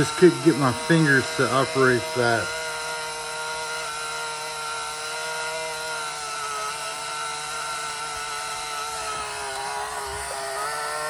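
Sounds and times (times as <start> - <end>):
small electric motor whine: 0.0 - 11.0.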